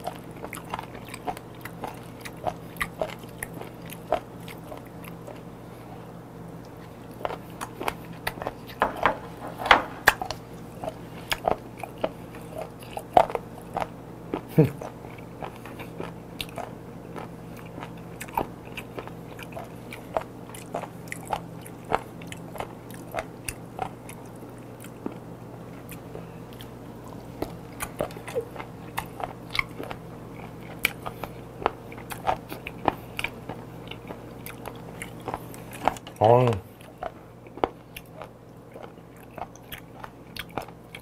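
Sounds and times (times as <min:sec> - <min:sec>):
biting and chewing: 0:00.0 - 0:05.9, 0:06.6 - 0:41.0.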